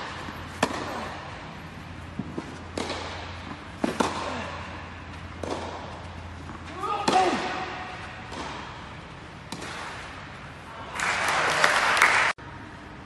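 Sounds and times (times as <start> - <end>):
tennis ball bouncing: 0.0 - 10.5
tennis racket hitting ball: 0.0 - 10.5
steady low hum: 0.0 - 11.0.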